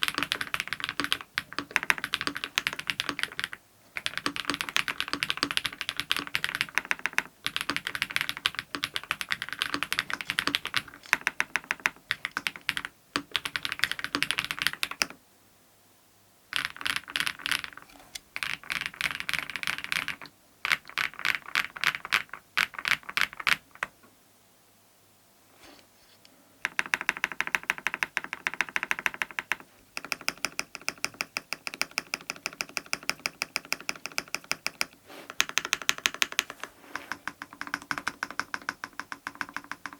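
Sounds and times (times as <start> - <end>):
typing on mechanical keyboard: 0.0 - 15.2, 16.5 - 17.8, 18.4 - 23.9, 26.6 - 39.9.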